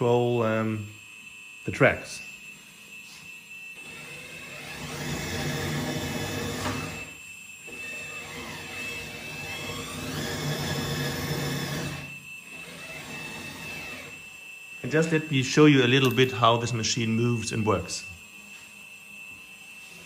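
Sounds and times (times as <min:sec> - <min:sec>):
hydraulic pump and track whine: 0:00.0 - 0:20.0.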